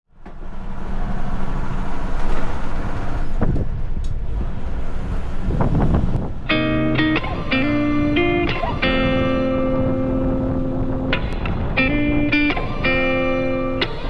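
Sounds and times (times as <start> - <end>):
diesel truck engine rumbling: 0.1 - 14.0.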